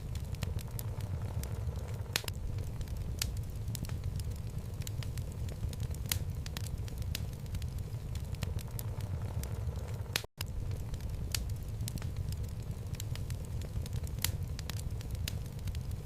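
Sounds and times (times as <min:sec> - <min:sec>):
flames rumbling: 0:00.0 - 0:16.0
logs crackling and popping: 0:00.0 - 0:16.0.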